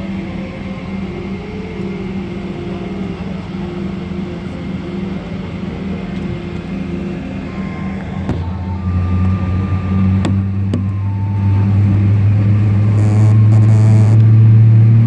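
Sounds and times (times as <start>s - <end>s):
air conditioning noise: 0.0s - 15.0s
aircraft engines droning: 0.0s - 15.0s
steady hum tones: 0.0s - 15.0s.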